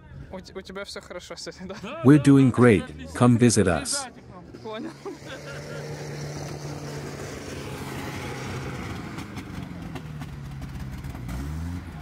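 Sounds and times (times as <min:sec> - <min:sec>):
off-road vehicle engine running: 0:02.3 - 0:12.0.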